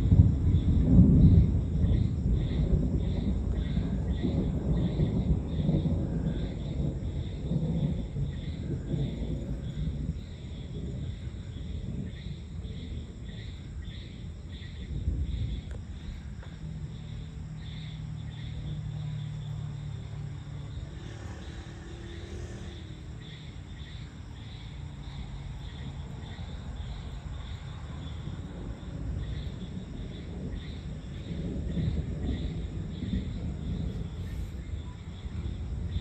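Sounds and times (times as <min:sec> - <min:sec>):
distant thunder rumble: 0:00.0 - 0:36.0
insects chirping: 0:00.0 - 0:36.0.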